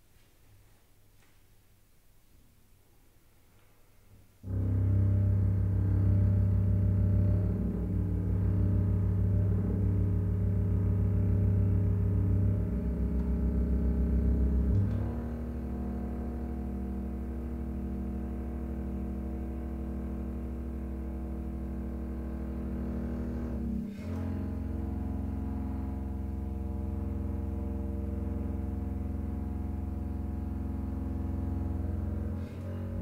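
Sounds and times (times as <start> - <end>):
bowed double bass: 4.4 - 33.0
chamber music held chord: 4.4 - 33.0.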